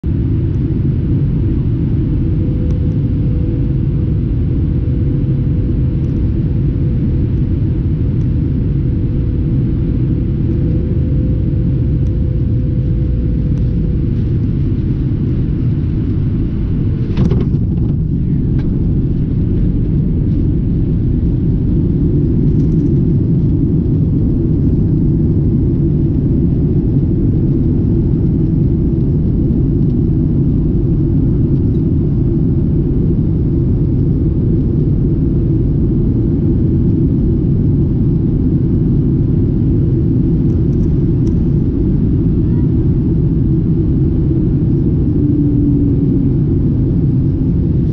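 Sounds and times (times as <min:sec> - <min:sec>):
jet engines and airflow rumble: 0:00.0 - 0:47.9.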